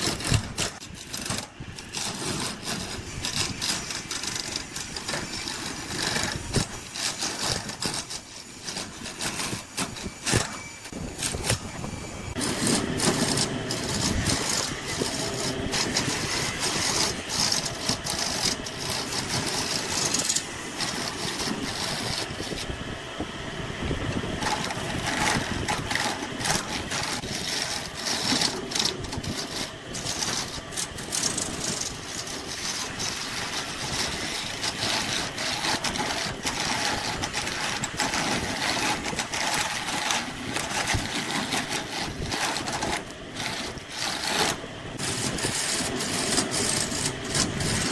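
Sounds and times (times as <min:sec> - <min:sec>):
lathe motor hum: 0:00.0 - 0:47.9
tool scraping spinning wood: 0:00.0 - 0:47.9.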